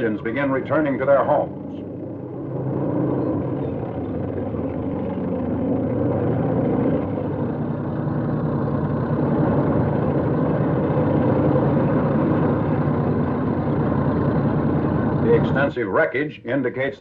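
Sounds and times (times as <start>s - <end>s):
tracked vehicle engine and tracks: 0.0s - 17.0s.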